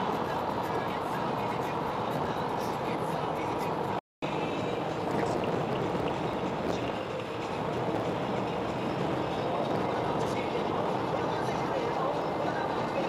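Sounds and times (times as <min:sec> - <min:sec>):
road and tyre noise inside car: 0:00.0 - 0:13.0.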